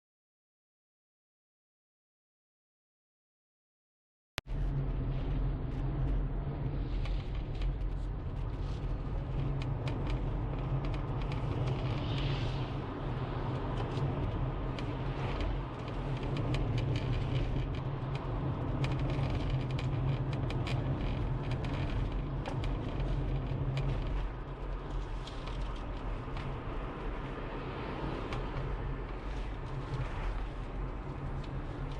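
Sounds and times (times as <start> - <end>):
car engine rumble from inside cabin: 4.5 - 31.9
interior ticks and creaks: 4.5 - 31.9.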